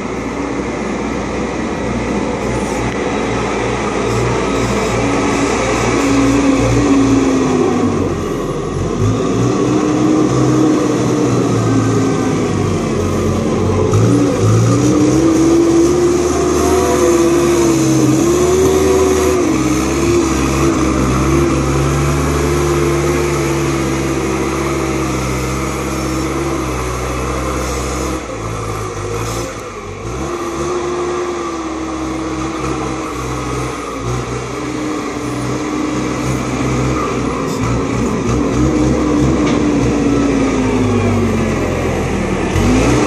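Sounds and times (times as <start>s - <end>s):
diesel engine working under load: 0.0s - 43.0s.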